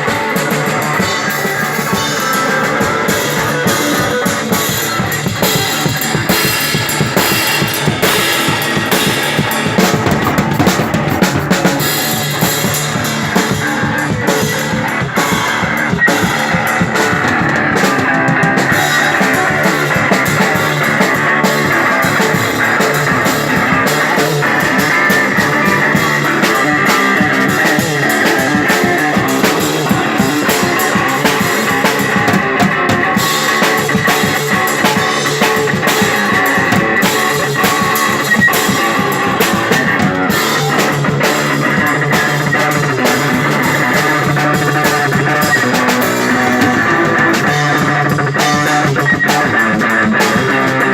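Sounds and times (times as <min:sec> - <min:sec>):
drum kit with cymbal strikes: 0:00.0 - 0:50.9
electric guitar: 0:00.0 - 0:50.9.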